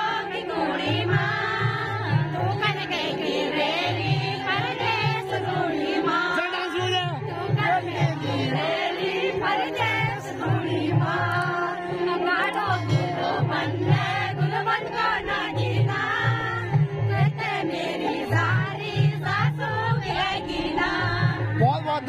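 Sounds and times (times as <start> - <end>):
women singing folk song: 0.0 - 6.5, 7.2 - 21.6.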